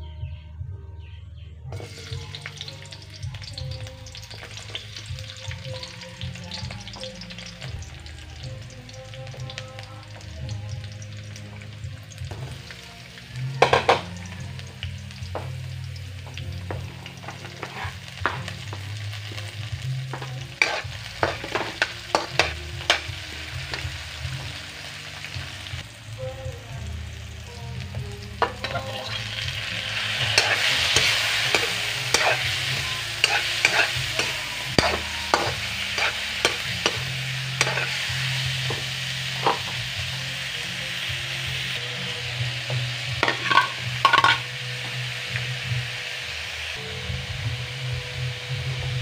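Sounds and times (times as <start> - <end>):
food frying in a wok: 1.8 - 49.0.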